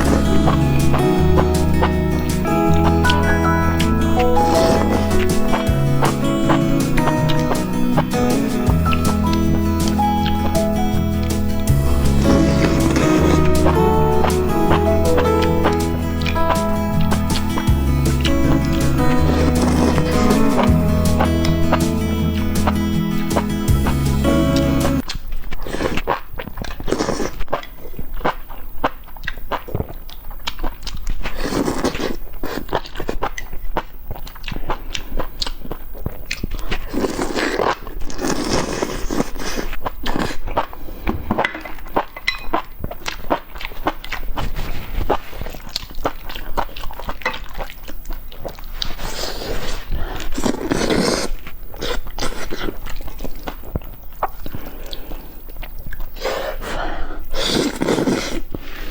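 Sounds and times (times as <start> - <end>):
person chewing: 0.0 - 58.9.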